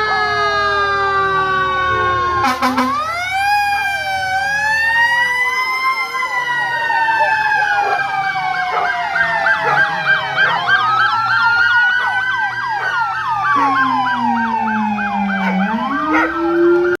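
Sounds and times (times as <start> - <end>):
fire truck sirens: 0.0 - 17.0.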